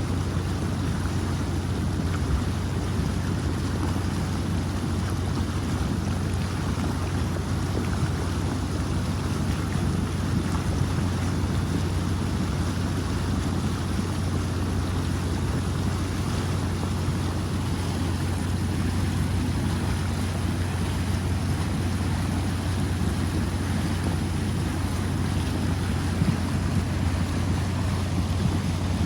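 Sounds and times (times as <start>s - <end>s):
floodwater rushing with low rumble: 0.0s - 29.0s.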